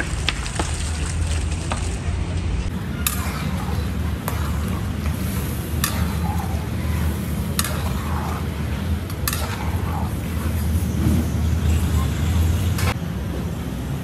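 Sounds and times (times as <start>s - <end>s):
boiling broth rumble and hiss: 0.0s - 14.0s.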